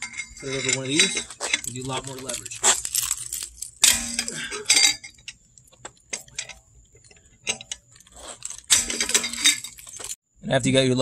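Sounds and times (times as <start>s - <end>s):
lug wrench clanking on lug nuts: 0.0s - 10.2s.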